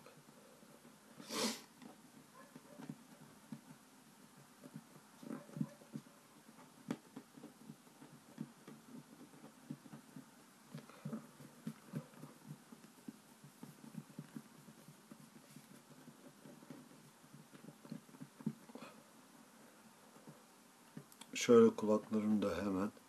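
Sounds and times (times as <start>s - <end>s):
hands patting play dough: 0.0s - 23.0s.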